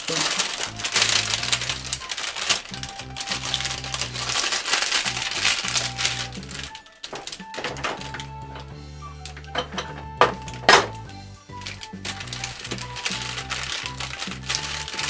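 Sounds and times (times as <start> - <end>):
background music: 0.0 - 15.0
parchment paper crinkling: 0.0 - 15.0.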